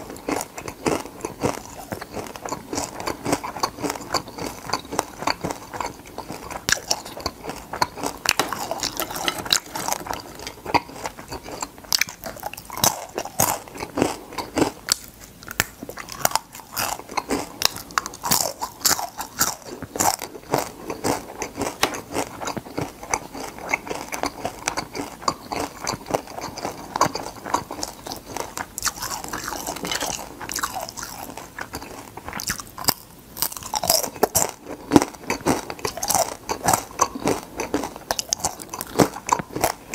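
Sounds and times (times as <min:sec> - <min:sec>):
person crunching fried food: 0:00.0 - 0:39.9.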